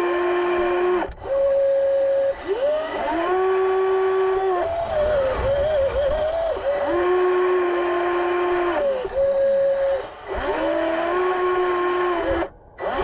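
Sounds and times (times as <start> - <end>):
model excavator motor whine: 0.0 - 13.0.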